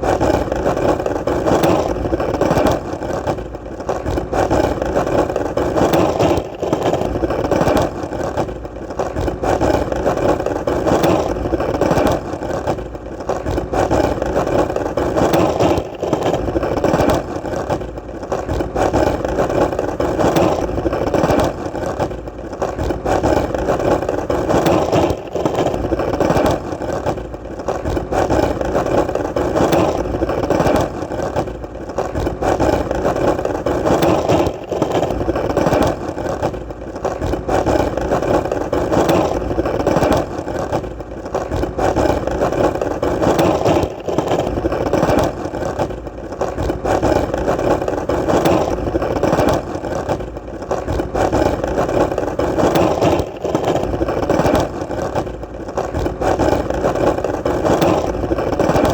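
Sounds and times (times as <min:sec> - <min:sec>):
skateboard wheels rolling: 0:00.0 - 0:58.9.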